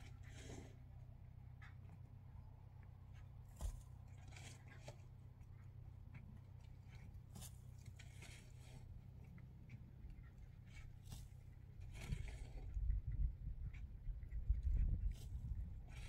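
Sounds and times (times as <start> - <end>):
low steady hum: 0.0 - 16.0
faint scrapes and clicks: 3.1 - 16.0.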